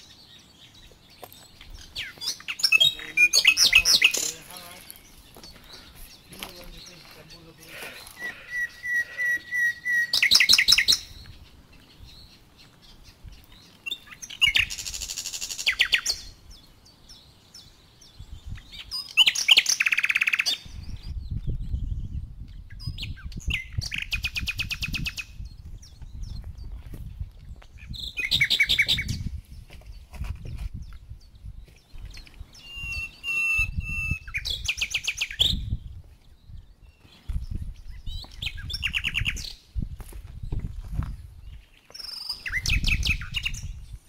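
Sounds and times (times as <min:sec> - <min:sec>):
songbird trilling: 0:00.0 - 0:26.8, 0:27.7 - 0:29.3, 0:30.8 - 0:39.6, 0:41.4 - 0:44.0.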